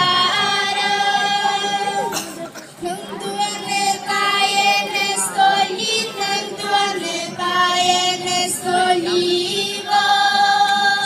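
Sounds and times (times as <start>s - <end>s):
chorus of children and women singing: 0.0s - 2.2s, 2.8s - 11.0s.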